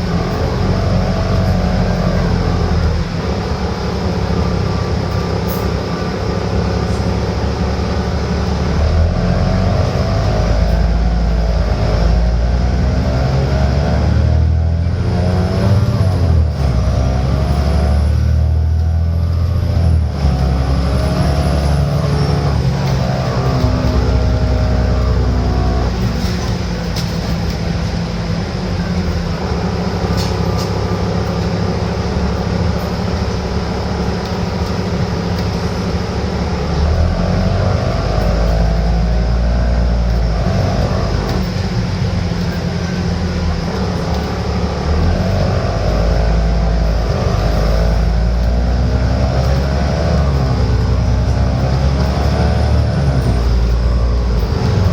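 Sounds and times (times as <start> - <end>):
bus diesel engine from on board: 0.0 - 54.9.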